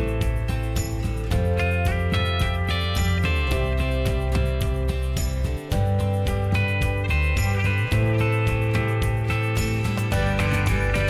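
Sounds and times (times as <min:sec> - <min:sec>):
music with steady beat: 0:00.0 - 0:11.0.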